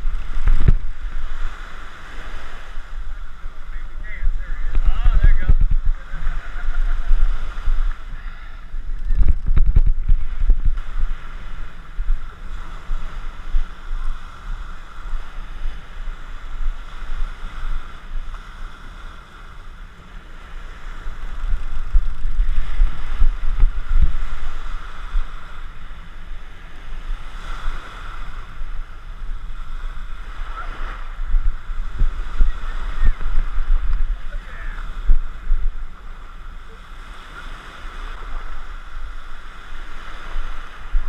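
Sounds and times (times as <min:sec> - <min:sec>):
surf washing up beach: 0:00.0 - 0:41.0
wind buffeting microphone: 0:00.0 - 0:41.0.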